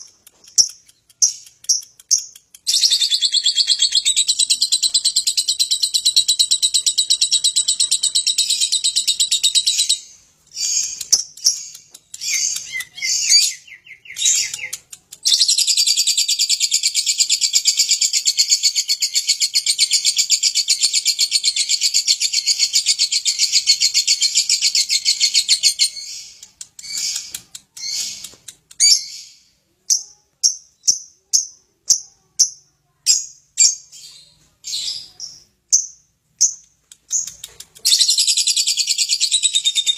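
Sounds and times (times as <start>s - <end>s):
sharp bird chirps: 0.0s - 32.1s, 33.2s - 39.9s.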